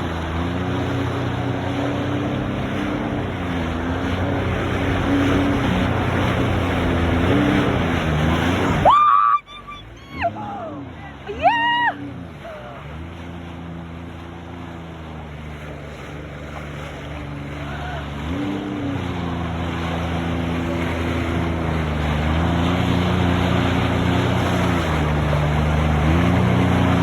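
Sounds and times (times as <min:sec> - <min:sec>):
jet ski engine speeding up: 0:00.0 - 0:27.0
rushing water: 0:00.0 - 0:27.0.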